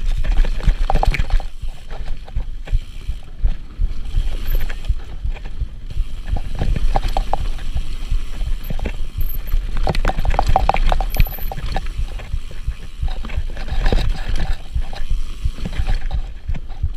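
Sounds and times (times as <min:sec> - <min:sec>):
bike rattling and clattering: 0:00.0 - 0:16.9
tyre noise on dirt: 0:00.0 - 0:16.9
wind rumble on microphone: 0:00.0 - 0:16.9.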